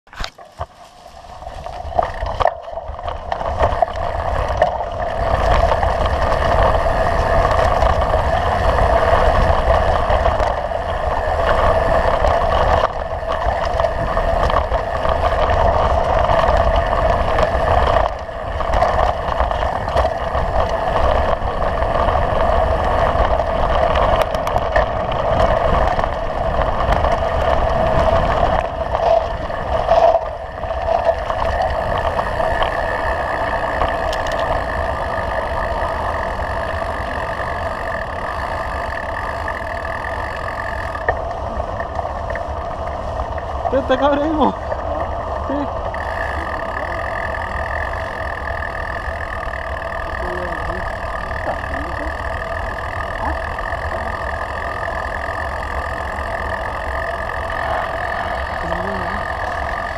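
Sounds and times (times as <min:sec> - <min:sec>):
tyres rumbling on gravel: 0:00.1 - 0:59.9.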